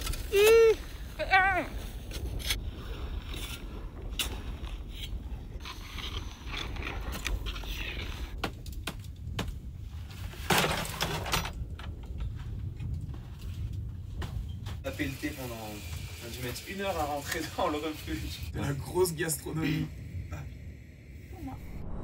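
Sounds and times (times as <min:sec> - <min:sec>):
low rumble: 0:00.0 - 0:16.2, 0:18.0 - 0:22.0.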